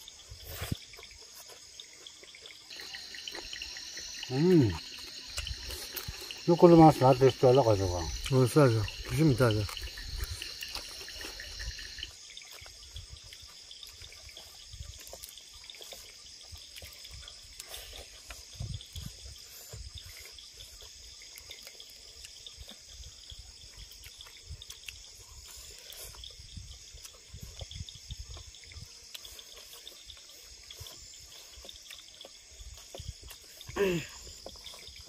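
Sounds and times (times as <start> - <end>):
insects chirping: 0.0 - 35.0
people eating with wet smacking: 0.0 - 35.0.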